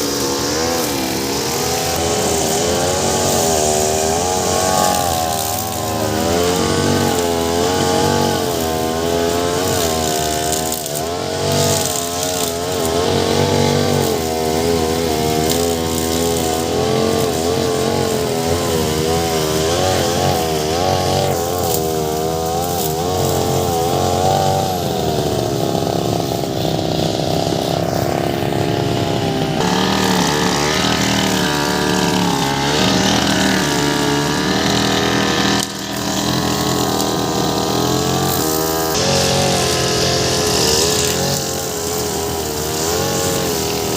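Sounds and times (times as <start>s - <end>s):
brush cutter engine running: 0.0s - 43.9s.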